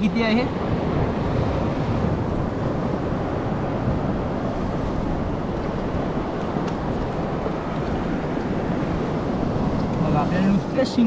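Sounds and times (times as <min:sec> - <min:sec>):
sea surf on shore: 0:00.0 - 0:11.0
wind buffeting microphone: 0:00.0 - 0:11.0.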